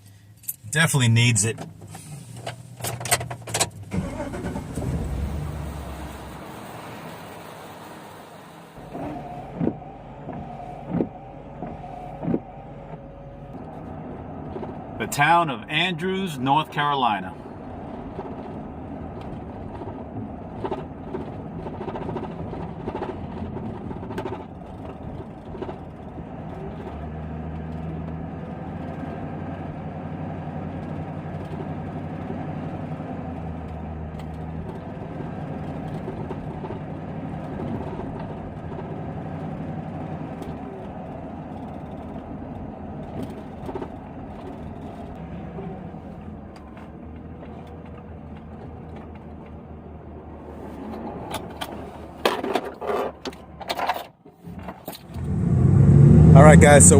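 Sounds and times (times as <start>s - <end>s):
road noise: 0.0s - 56.9s
van engine hum: 0.0s - 56.9s.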